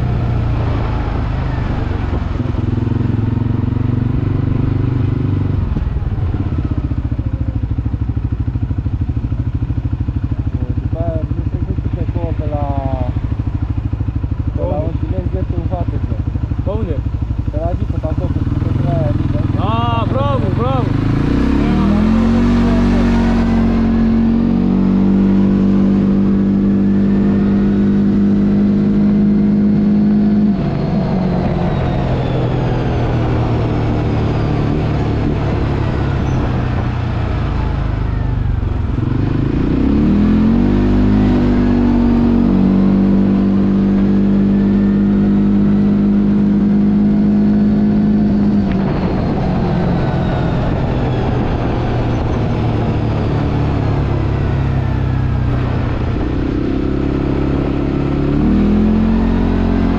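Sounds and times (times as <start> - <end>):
atv engine accelerating: 0.0 - 59.9.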